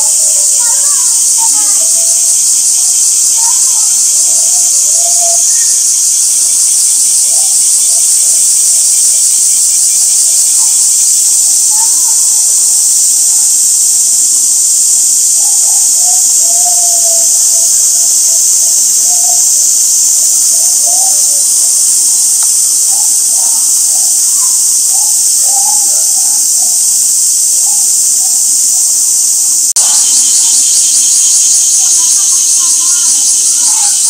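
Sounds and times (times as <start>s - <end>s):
cicadas buzzing: 0.0s - 34.0s
people talking: 0.0s - 34.0s.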